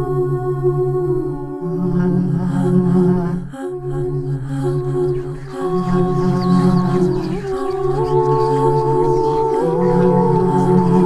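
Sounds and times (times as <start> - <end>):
layered voice drone harmony: 0.0 - 11.0.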